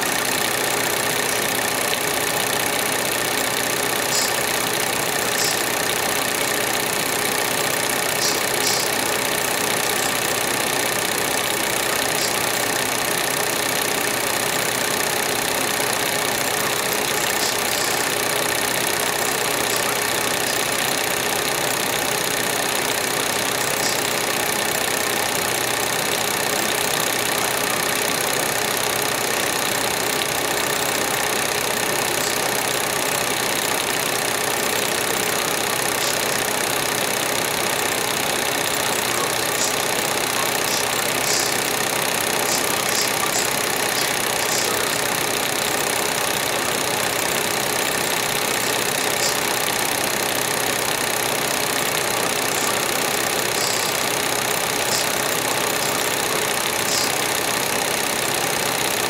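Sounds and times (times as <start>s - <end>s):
steady mechanical hum with hiss: 0.0s - 59.0s.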